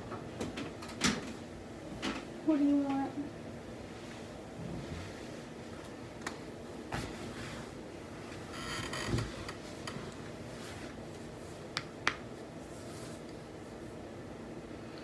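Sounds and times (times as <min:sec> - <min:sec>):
space heater running: 0:00.0 - 0:15.0.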